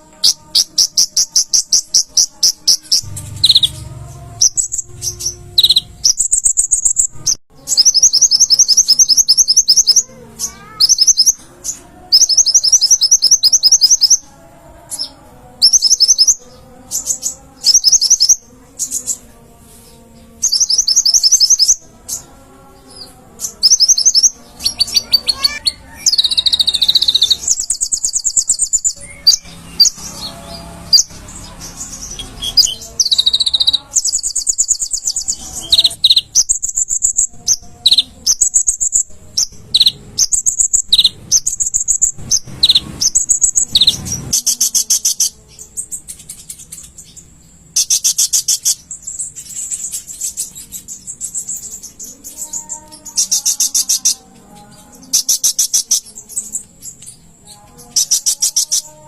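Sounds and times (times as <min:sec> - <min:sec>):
bird singing high trilled phrases: 0:00.0 - 0:14.3, 0:14.9 - 0:19.2, 0:20.4 - 0:22.2, 0:23.1 - 0:59.0.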